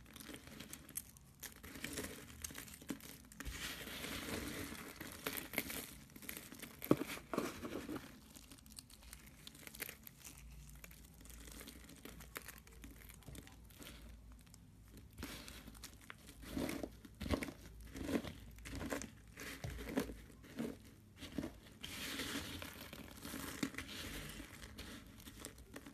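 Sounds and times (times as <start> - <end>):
soap shavings crunched by hand: 0.0 - 25.9.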